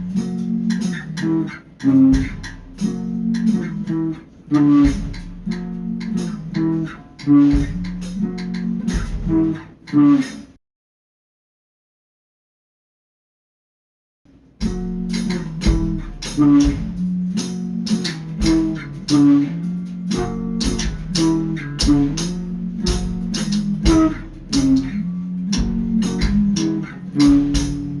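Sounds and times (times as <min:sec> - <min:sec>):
guitar-led background music: 0:00.0 - 0:10.6, 0:14.6 - 0:28.0.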